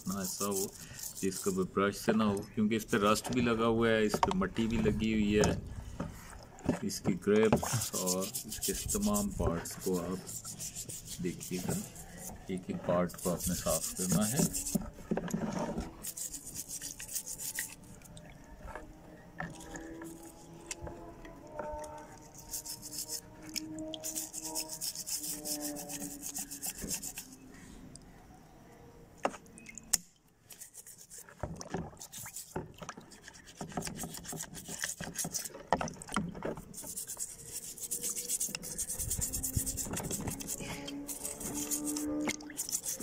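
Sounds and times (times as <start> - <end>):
toothbrush scrubbing metal under water: 0.0 - 5.4, 6.2 - 27.4, 30.5 - 43.0.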